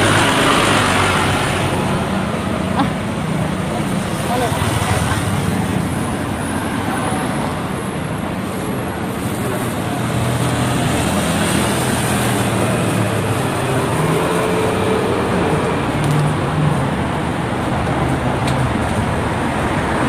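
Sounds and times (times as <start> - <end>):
traffic rush: 0.0 - 20.0.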